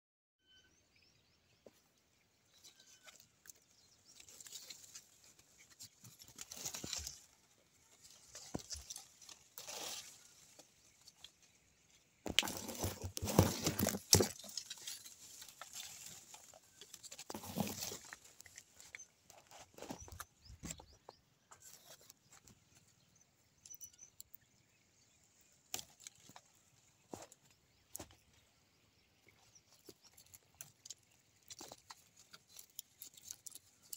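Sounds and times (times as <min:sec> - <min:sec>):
leaves and twigs rustling: 0:02.4 - 0:24.4, 0:25.0 - 0:33.9.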